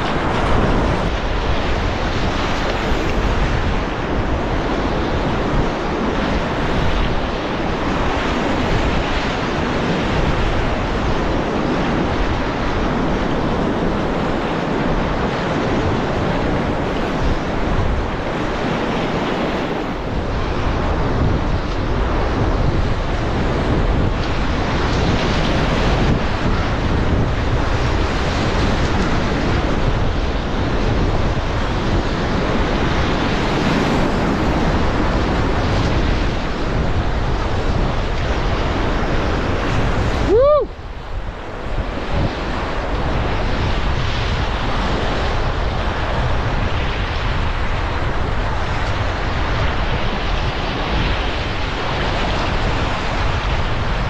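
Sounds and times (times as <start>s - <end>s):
whitewater rapids rushing: 0.0s - 54.0s
wind on microphone: 0.0s - 54.0s.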